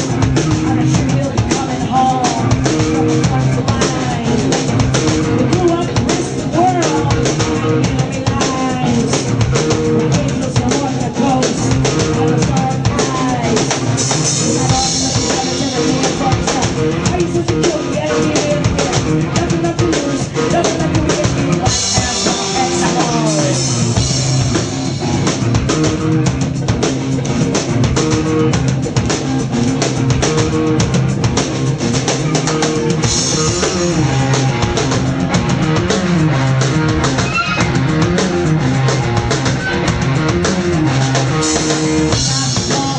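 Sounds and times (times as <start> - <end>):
electric guitar: 0.0 - 42.9
live rock band playing: 0.0 - 42.9
pounding drum kit: 0.0 - 42.9.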